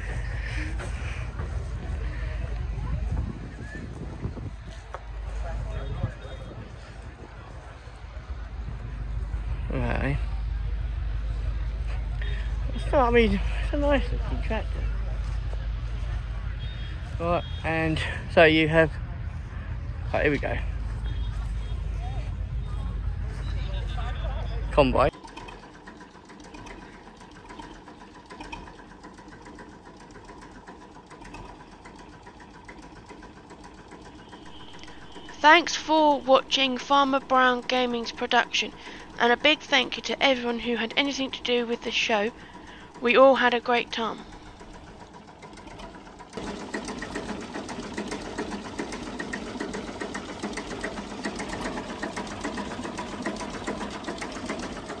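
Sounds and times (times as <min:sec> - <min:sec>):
engine running with clatter: 0:00.0 - 0:55.0.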